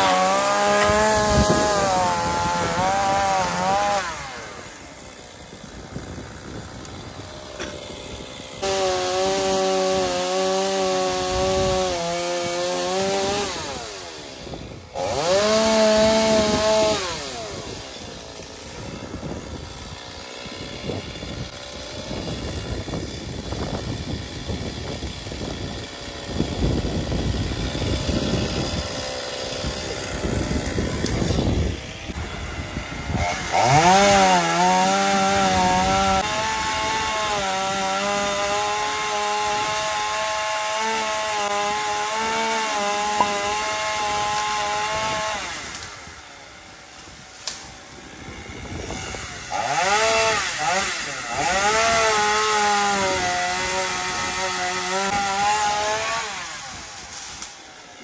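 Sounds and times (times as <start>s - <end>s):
chainsaw revving and cutting wood: 0.0s - 58.0s.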